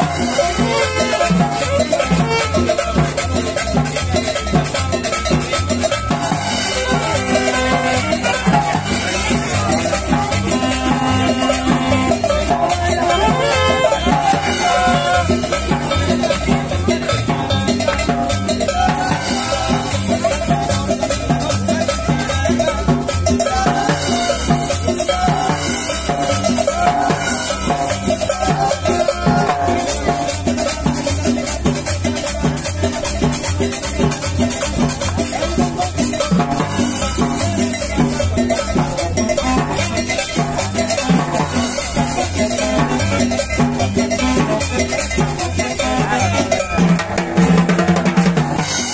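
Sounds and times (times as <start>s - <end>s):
drum kit dance beat: 0.0s - 48.9s.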